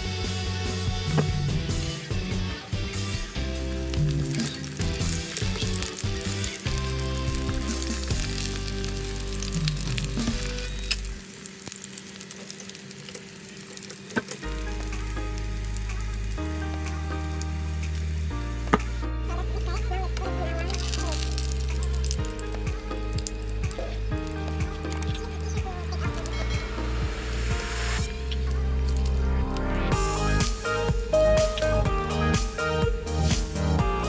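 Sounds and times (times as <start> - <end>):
background music: 0.0 - 11.1, 14.4 - 34.0
food sizzling in a pan: 0.0 - 33.8.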